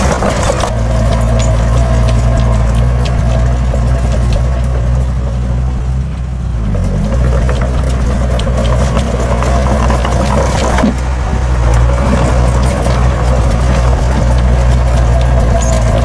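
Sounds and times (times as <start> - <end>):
heavy diesel engine running: 0.0 - 16.0
light clinks and knocks: 0.0 - 16.0.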